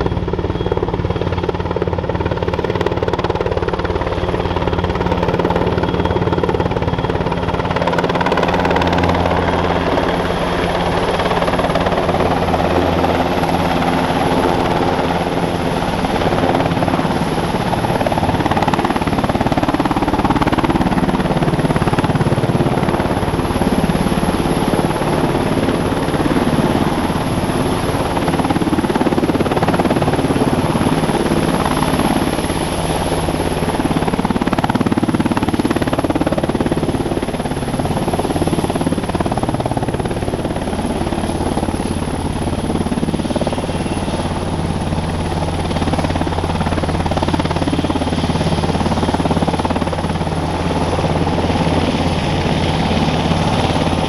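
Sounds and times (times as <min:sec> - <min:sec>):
helicopter rotor and turbine noise: 0:00.0 - 0:54.0
high-pitched turbine whine: 0:00.0 - 0:54.0.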